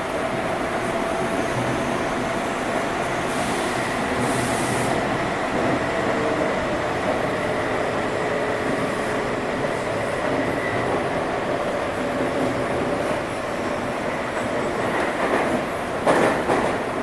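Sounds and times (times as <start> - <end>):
train wheels rumbling in tunnel: 0.0 - 17.0.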